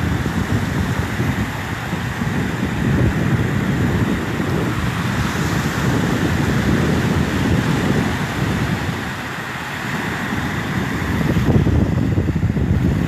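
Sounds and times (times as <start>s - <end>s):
surf washing on sandy beach: 0.0s - 13.0s
wind buffeting microphone: 0.0s - 13.0s.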